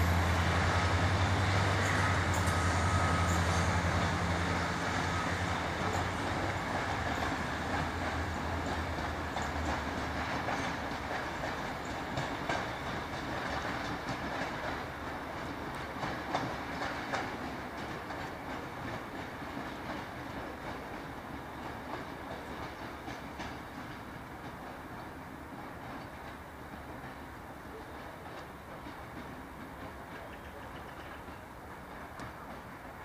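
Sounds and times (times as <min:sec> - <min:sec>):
locomotive engine hum: 0:00.0 - 0:33.0
train wheels clicking over rail joints: 0:00.0 - 0:33.0.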